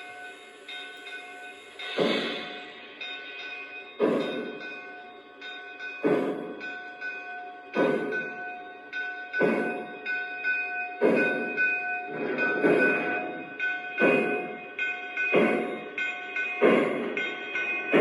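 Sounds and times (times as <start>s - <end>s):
model steam locomotive chuffing: 0.0s - 18.0s
steady ringing tones: 0.0s - 18.0s.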